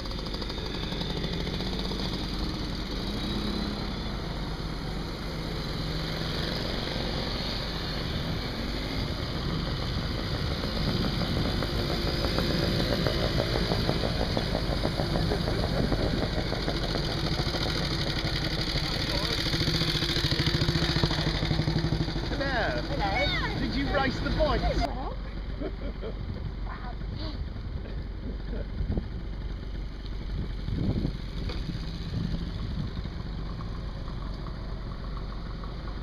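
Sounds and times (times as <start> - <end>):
moped engines passing: 0.0 - 36.0.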